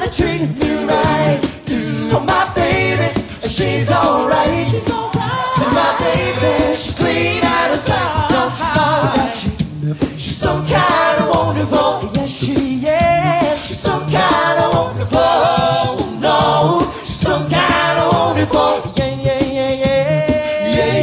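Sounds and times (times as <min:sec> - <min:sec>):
pulsing vocal bass: 0:00.0 - 0:21.0
voices singing in harmony: 0:00.0 - 0:21.0.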